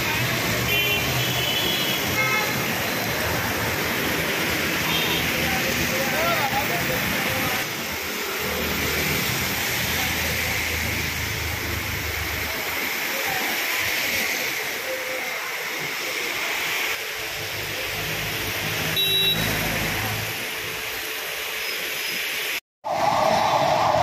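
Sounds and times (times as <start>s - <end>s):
heavy rain on standing water: 0.0s - 22.6s.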